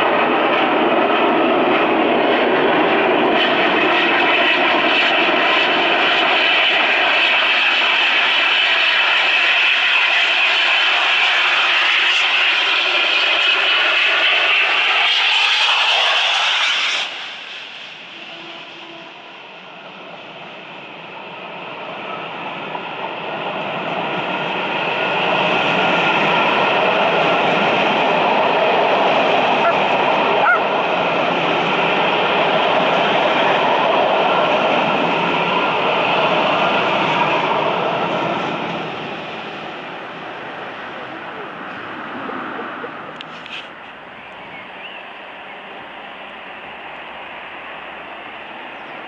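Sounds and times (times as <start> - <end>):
steam locomotive exhaust rush: 0.0 - 49.0
train carriages rumbling past: 0.0 - 49.0.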